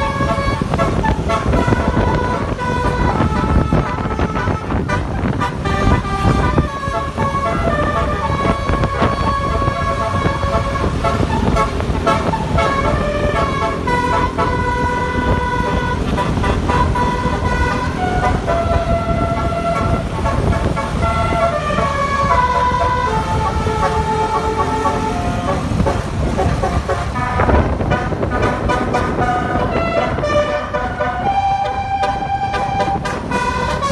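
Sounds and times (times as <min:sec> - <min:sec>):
multi-tone horn playing a tune: 0:00.0 - 0:33.9
steady low rumble: 0:00.0 - 0:33.9.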